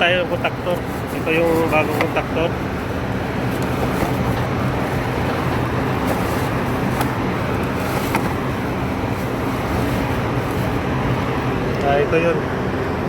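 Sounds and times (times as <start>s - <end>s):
air conditioning units droning: 0.0s - 13.0s.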